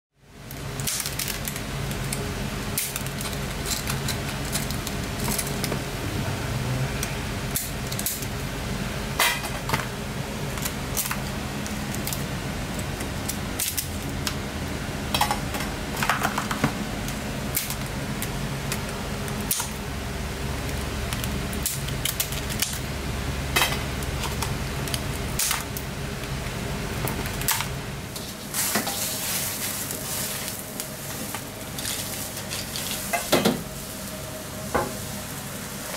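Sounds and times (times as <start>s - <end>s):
kitchen hum: 0.2s - 35.9s.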